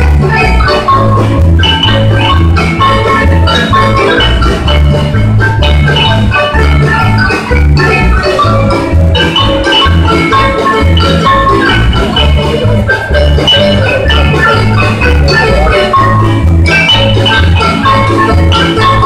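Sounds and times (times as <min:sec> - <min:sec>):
marimba band playing dance music: 0:00.0 - 0:19.0.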